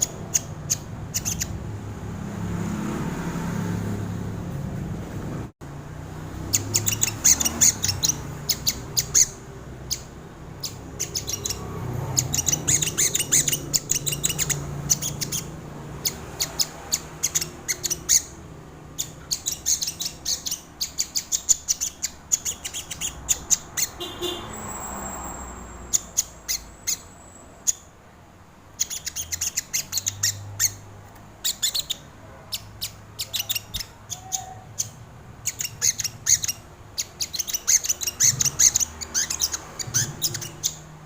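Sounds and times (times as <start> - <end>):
bird high-pitched chips: 0.0 - 1.6, 6.5 - 27.9, 28.7 - 41.0.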